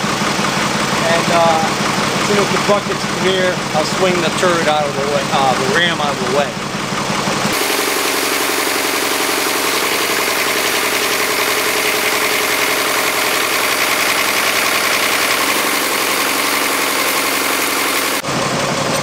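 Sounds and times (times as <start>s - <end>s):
backhoe engine running under load: 0.0s - 19.0s.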